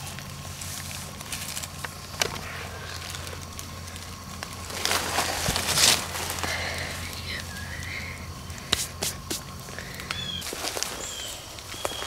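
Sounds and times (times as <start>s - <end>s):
dry twigs crackling: 0.0s - 12.0s
footsteps rustling in dry leaves: 0.0s - 12.0s.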